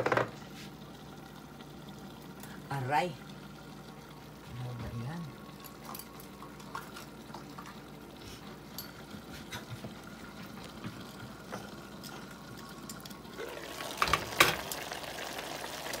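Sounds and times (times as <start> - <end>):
stew simmering with pops: 0.2 - 16.0.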